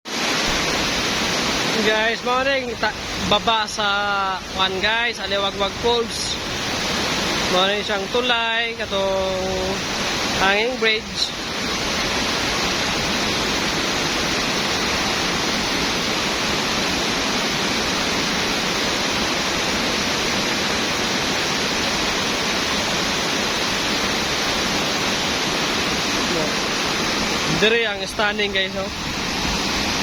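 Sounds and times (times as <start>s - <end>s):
waterfall roaring: 0.1s - 30.0s.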